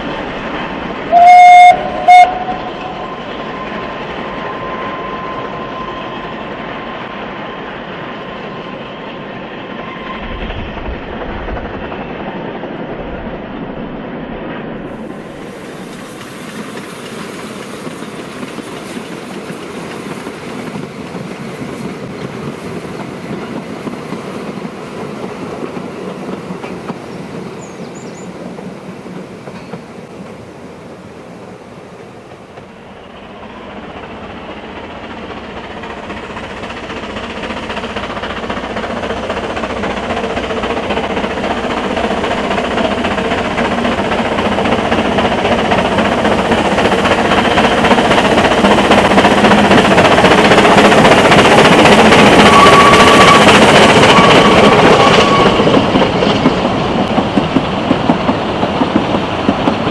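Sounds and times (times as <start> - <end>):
steam train running on rails: 0.0 - 59.9.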